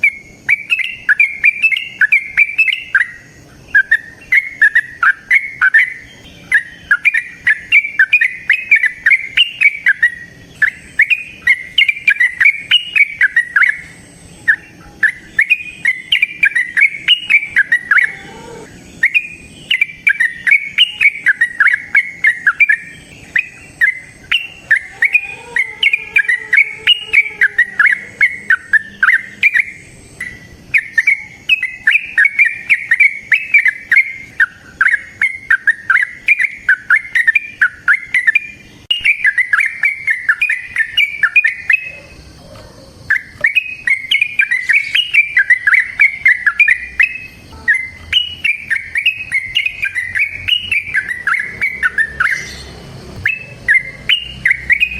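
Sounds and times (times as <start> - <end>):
bulbul singing bubbling song: 0.0 - 54.9.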